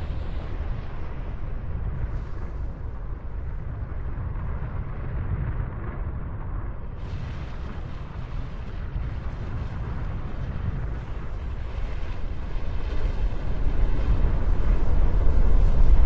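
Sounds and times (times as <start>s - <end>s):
volcanic eruption rumble: 0.0s - 16.0s.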